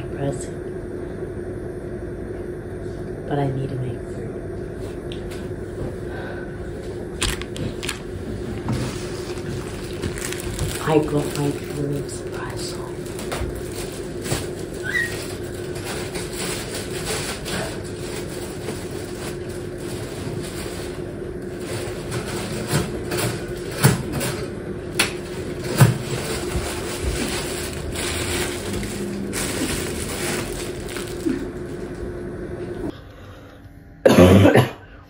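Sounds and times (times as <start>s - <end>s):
appliance hum with hiss: 0.0s - 35.0s.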